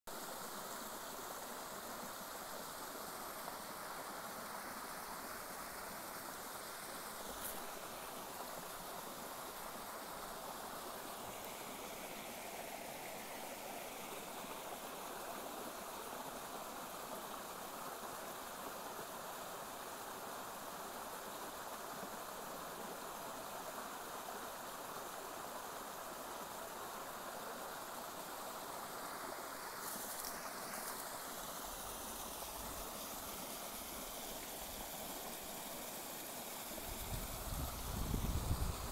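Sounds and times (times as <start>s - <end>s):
stream flowing: 0.1s - 38.9s.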